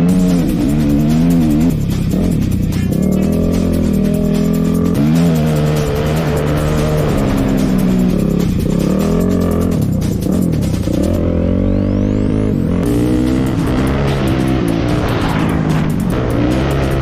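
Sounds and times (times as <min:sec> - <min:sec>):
engine revving: 0:00.0 - 0:17.0
music playing: 0:00.0 - 0:17.0.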